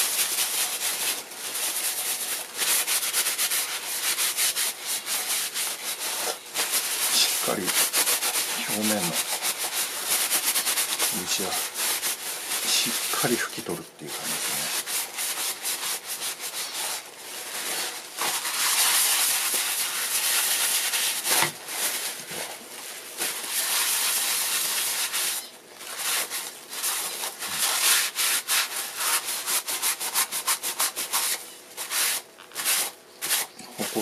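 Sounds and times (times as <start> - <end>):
paper scrubbing a wooden bowl: 0.0 - 34.0.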